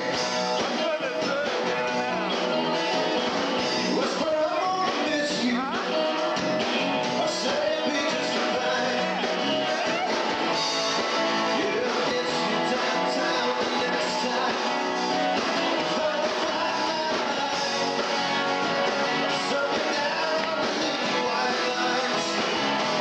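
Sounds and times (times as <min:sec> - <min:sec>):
rock band playing live: 0:00.0 - 0:23.0
strummed guitars: 0:00.0 - 0:23.0.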